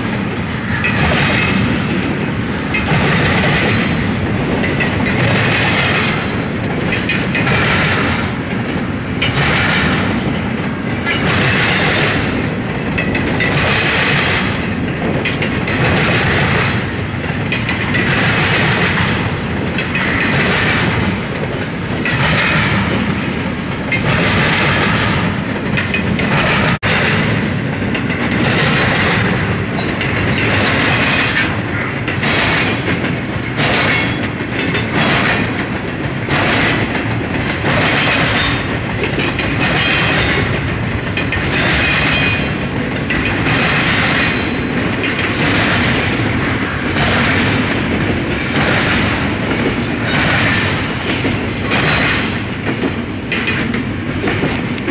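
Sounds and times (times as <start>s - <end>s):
freight train rumble and rattle: 0.0s - 54.9s
train wheels clicking over rail joints: 0.0s - 54.9s.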